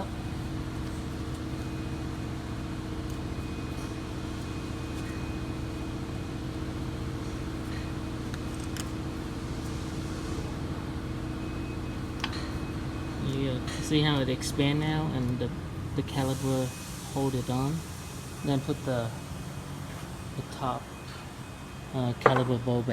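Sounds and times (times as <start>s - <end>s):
mechanical hum: 0.0s - 22.9s.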